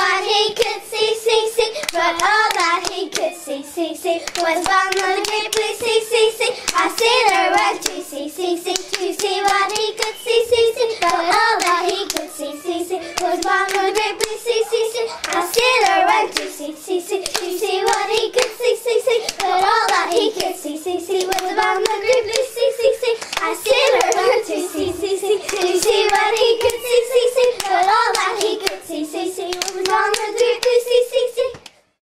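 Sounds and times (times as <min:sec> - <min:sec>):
children singing: 0:00.0 - 0:31.7
hands clapping in rhythm: 0:01.7 - 0:03.5, 0:04.1 - 0:31.8.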